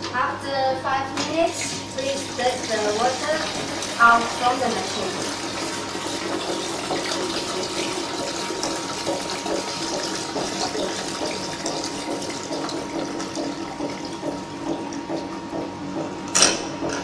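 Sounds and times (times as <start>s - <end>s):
machine hum: 0.0s - 17.0s
water running into plastic jug: 1.5s - 15.8s.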